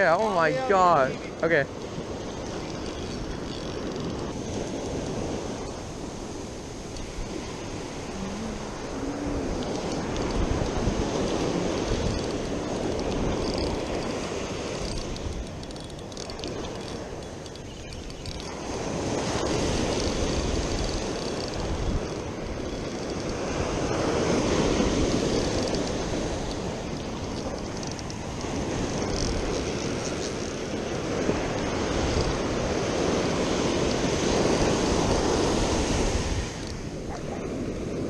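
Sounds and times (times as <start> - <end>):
ocean surf breaking: 0.0 - 17.7, 18.3 - 38.0
wind on microphone: 0.0 - 38.0.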